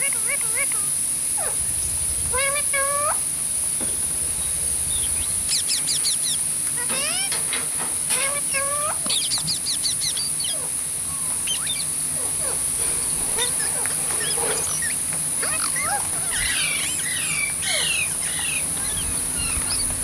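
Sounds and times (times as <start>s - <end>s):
parakeet squawking and chirping: 0.0s - 1.7s, 2.3s - 3.2s, 4.9s - 7.4s, 8.1s - 20.0s.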